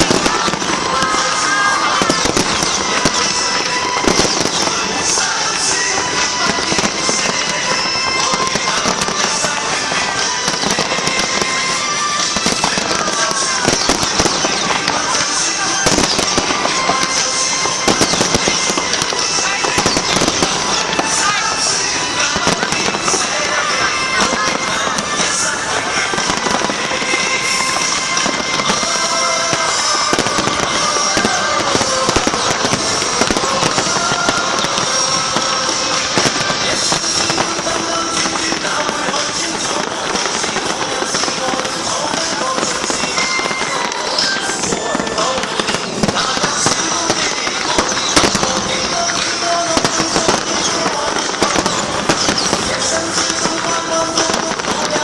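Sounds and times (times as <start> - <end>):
firework falling whistle: 0.0 - 55.0
fireworks crackling bangs: 0.0 - 55.0.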